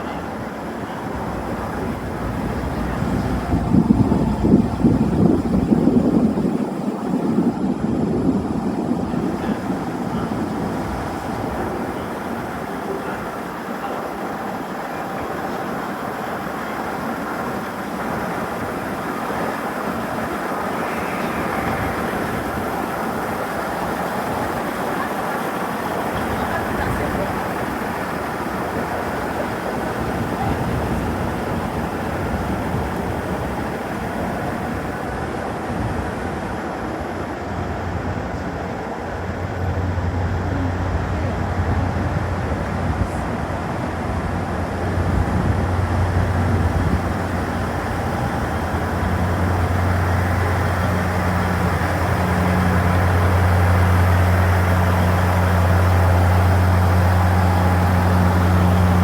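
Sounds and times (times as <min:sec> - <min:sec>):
train running noise: 0:00.0 - 0:59.0.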